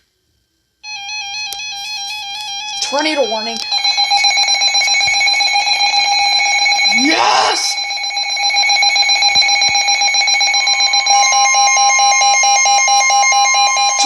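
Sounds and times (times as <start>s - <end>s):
high alarm tone: 0.8s - 14.0s.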